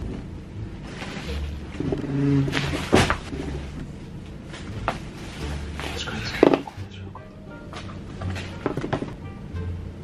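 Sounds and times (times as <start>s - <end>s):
low handling rumble: 0.0s - 9.2s.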